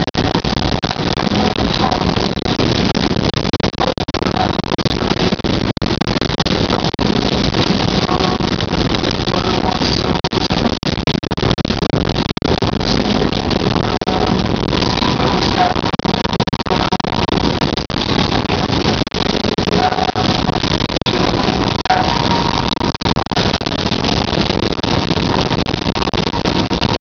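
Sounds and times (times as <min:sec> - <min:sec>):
heavy rain on car windshield: 0:00.0 - 0:27.0.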